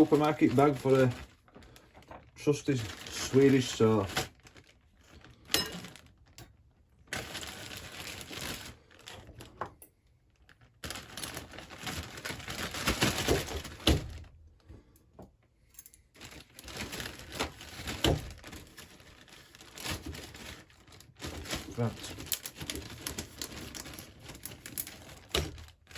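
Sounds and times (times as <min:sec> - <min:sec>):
plastic bag rustling: 0:00.0 - 0:09.7, 0:10.3 - 0:14.4, 0:16.2 - 0:25.9.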